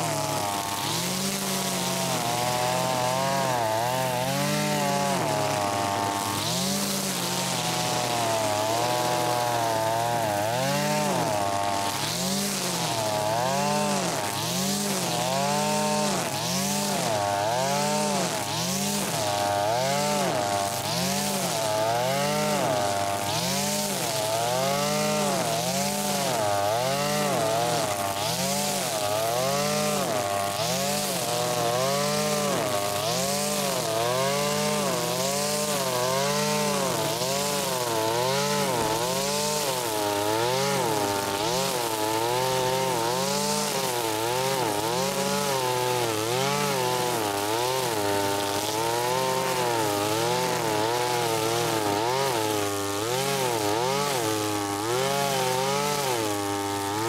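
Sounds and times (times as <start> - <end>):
brush cutter engine running: 0.0 - 57.0.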